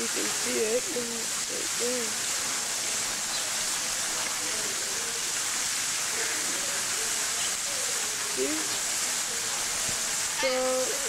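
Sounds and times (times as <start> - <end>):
faint voices talking: 0.0 - 11.0
running water rushing: 0.0 - 11.0.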